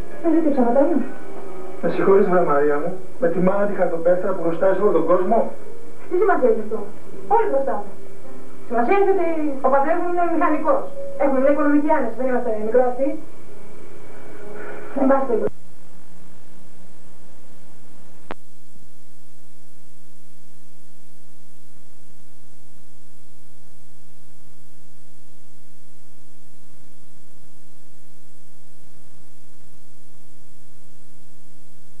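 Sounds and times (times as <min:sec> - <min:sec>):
electrical hum: 0:00.0 - 0:32.0
faint tape hiss: 0:00.0 - 0:32.0.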